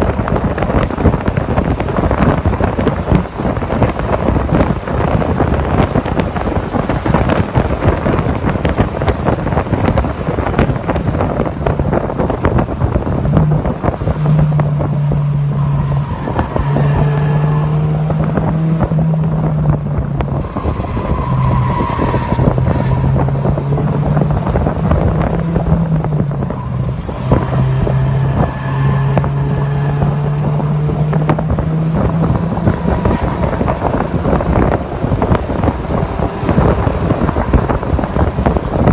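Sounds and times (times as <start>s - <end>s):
car engine at high revs: 0.0s - 38.9s
wind buffeting on microphone: 0.0s - 38.9s.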